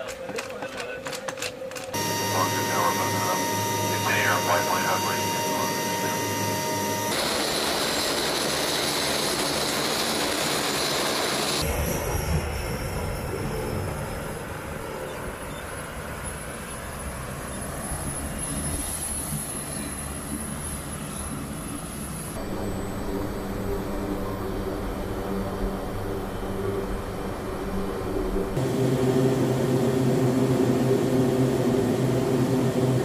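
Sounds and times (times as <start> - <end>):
turboprop engines whining: 1.9 - 33.0.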